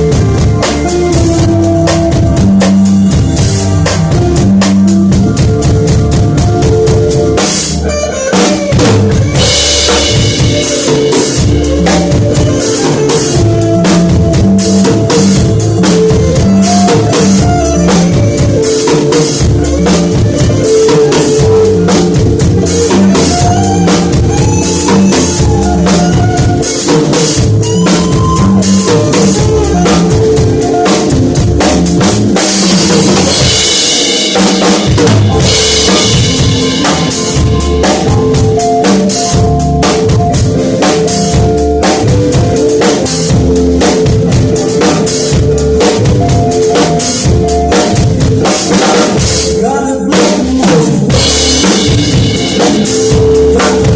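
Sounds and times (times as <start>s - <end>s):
drum kit groove: 0.0s - 53.9s.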